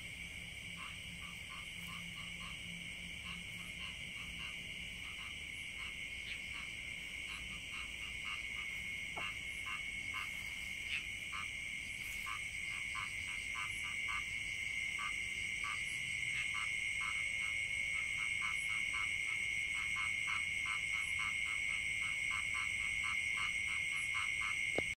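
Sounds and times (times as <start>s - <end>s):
frogs calling: 0.0s - 25.0s.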